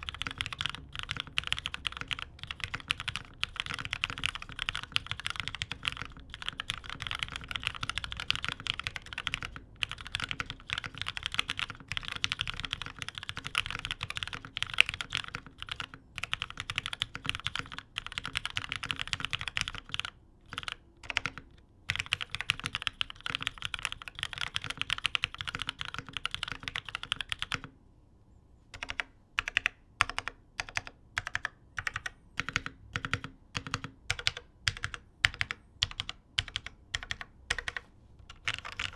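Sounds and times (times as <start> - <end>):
mechanical keyboard typing: 0.0 - 27.8, 28.8 - 38.9.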